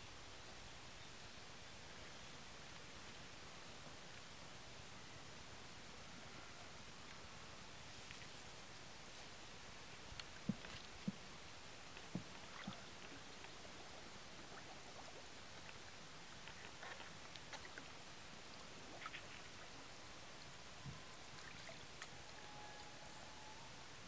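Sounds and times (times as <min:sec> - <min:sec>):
steady low hiss: 0:00.0 - 0:24.0.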